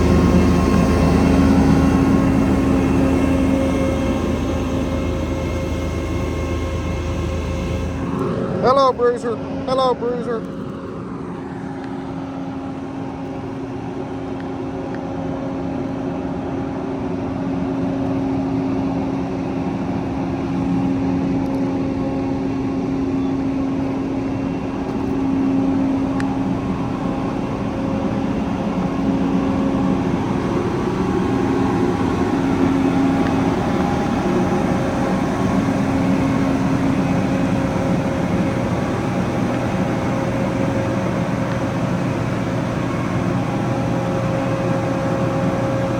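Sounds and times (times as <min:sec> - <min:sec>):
combine harvester engine humming: 0:00.0 - 0:45.9.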